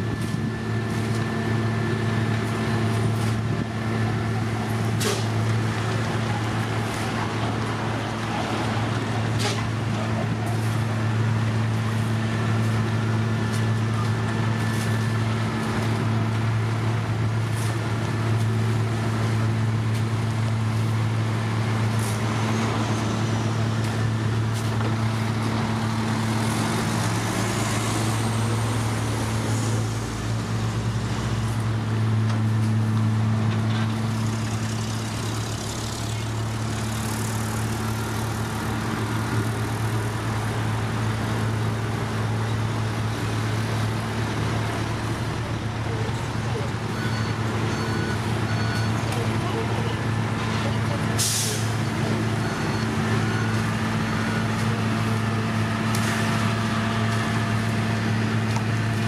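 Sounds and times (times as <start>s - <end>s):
diesel engines humming: 0.0s - 59.0s.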